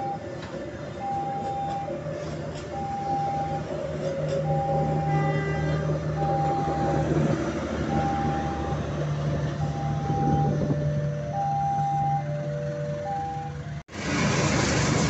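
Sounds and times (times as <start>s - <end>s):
crossing signal beeping: 0.0s - 7.1s, 7.8s - 8.9s, 9.5s - 13.6s
train coaches rumbling past: 0.0s - 11.4s, 12.2s - 15.0s.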